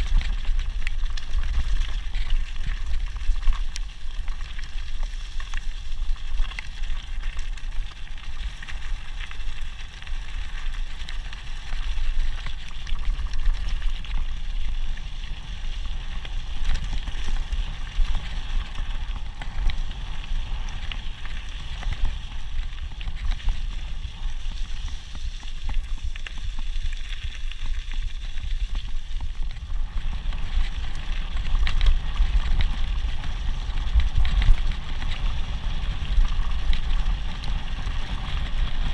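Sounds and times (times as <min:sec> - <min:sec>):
bike rattling: 0:00.0 - 0:38.9.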